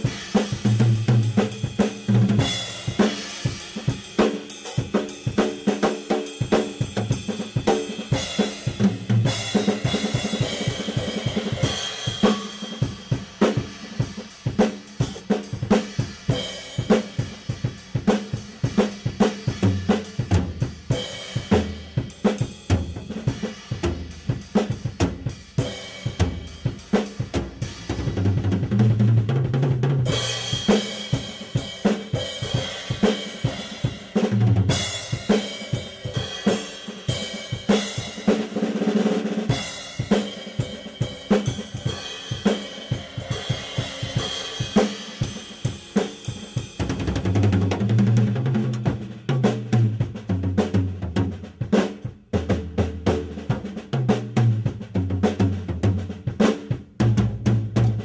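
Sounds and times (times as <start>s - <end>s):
drum kit funk groove: 0.0s - 58.0s.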